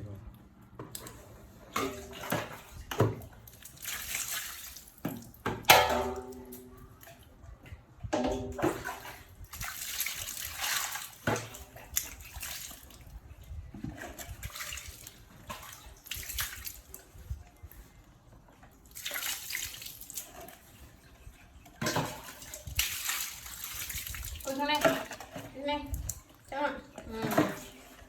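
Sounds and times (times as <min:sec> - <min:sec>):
water splashing and sloshing: 0:00.4 - 0:28.0.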